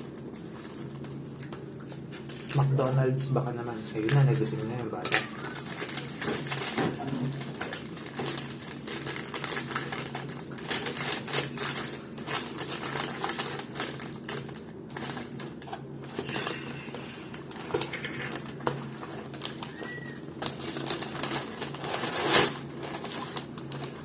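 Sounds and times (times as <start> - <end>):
steady low hum: 0.0 - 24.0
food packaging crinkling: 4.0 - 24.0.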